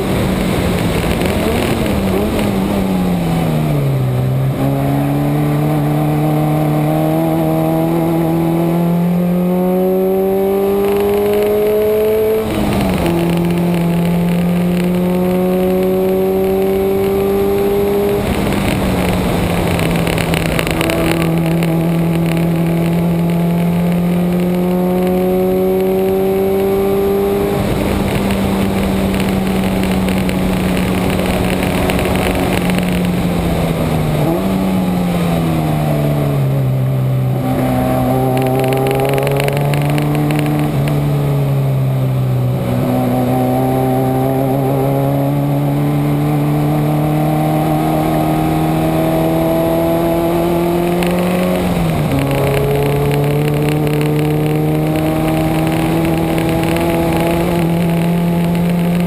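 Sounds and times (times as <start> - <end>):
car engine revving hard: 0.0 - 59.0
wind and road noise: 0.0 - 59.0.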